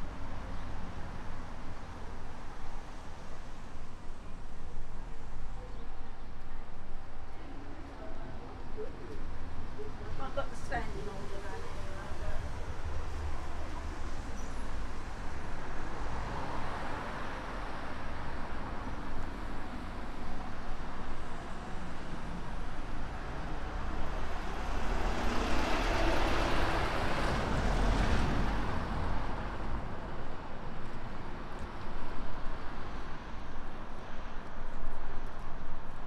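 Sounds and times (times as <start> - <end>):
traffic on wet road: 0.0 - 36.0.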